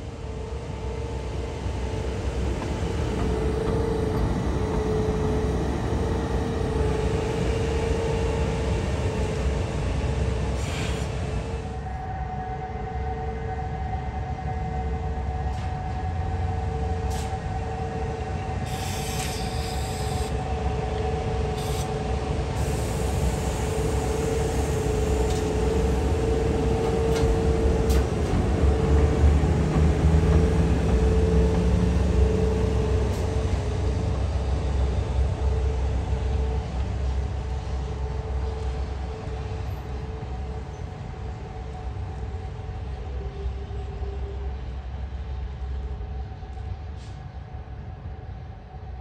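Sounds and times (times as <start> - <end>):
train wheels rumbling: 1.2 - 11.7, 15.5 - 47.8.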